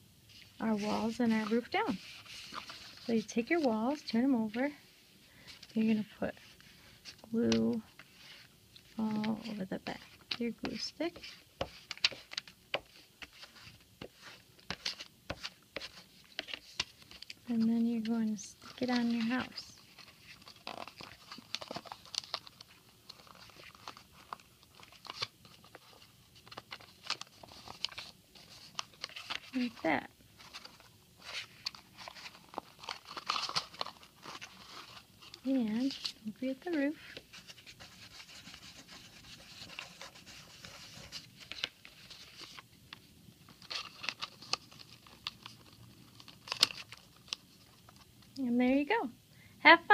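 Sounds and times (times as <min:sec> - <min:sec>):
paper crinkling and rustling: 0:00.3 - 0:48.3.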